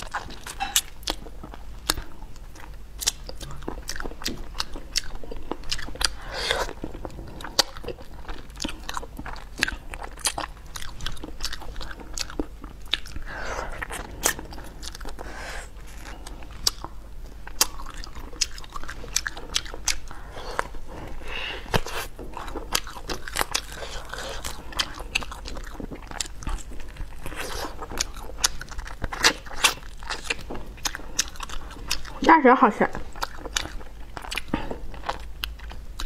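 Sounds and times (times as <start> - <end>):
person chewing and biting: 0.0 - 32.2, 33.0 - 36.0.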